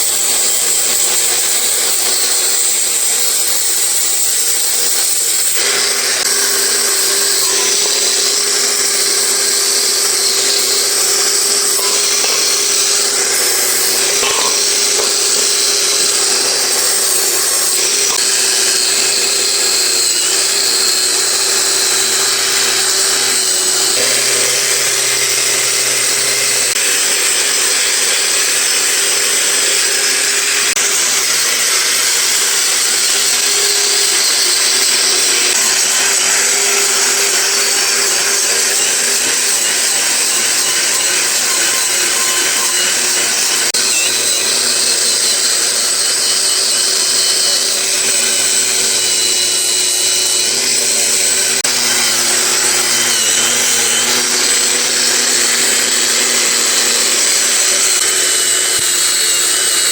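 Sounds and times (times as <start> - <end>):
power tool whining: 0.0 - 59.9.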